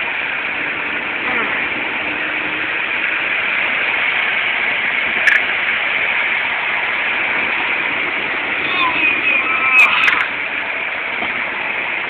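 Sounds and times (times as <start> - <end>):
car interior driving noise: 0.0 - 12.0.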